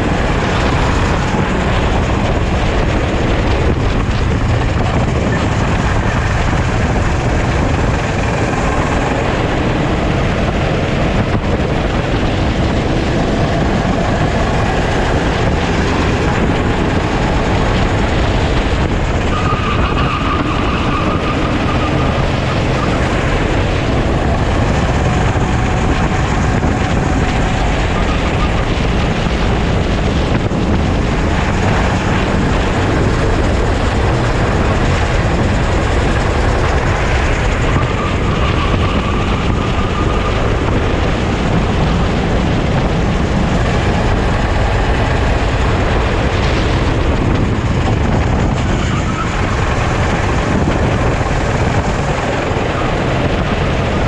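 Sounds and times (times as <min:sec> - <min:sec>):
kart engine running: 0:00.0 - 0:54.0
wind buffeting microphone: 0:00.0 - 0:54.0.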